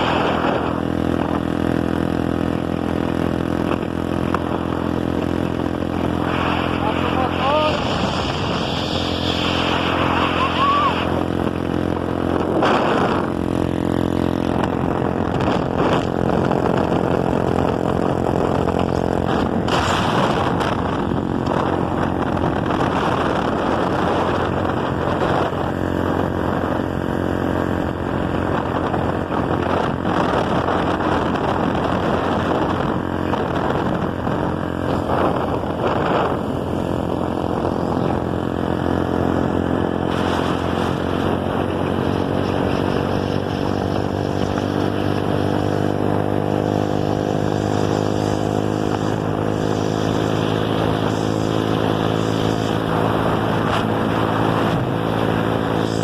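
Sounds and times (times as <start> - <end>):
boat engine roaring: 0.0 - 56.0.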